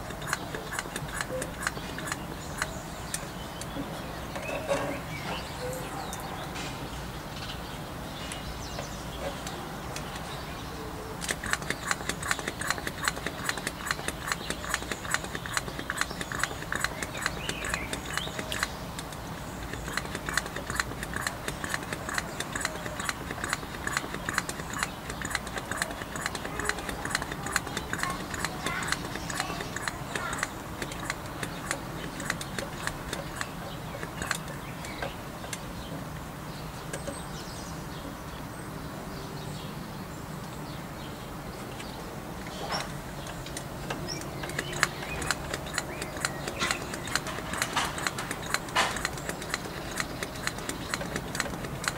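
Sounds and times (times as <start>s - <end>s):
rapid irregular clicking: 0.0s - 7.0s, 11.2s - 37.3s, 41.6s - 51.9s.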